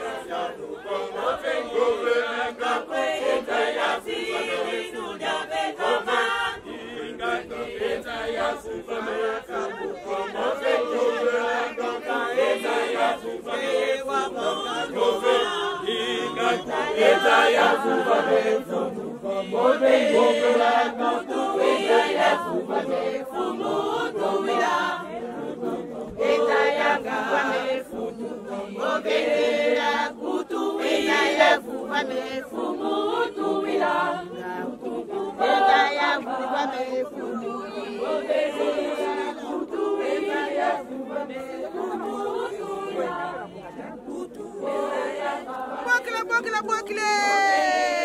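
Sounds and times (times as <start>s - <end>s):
women's choir singing unaccompanied: 0.0s - 48.0s.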